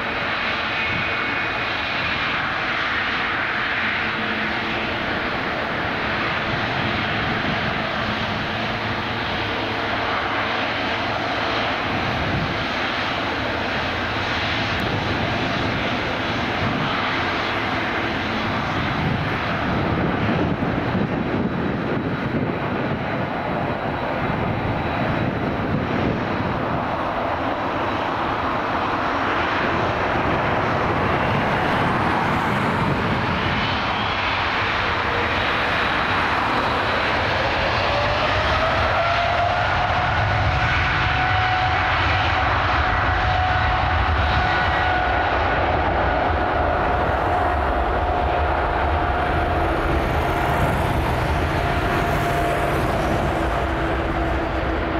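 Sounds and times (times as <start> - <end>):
jet engine rumble: 0.0 - 54.9
jet engines spooling up whine: 0.0 - 54.9.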